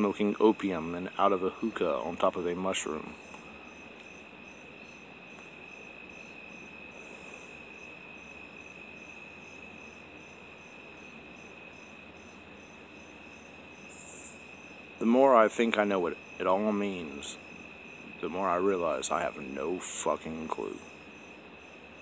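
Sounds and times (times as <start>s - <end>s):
insect high-pitched trill: 0.0s - 22.0s
pulsing insect chirp: 0.0s - 22.0s.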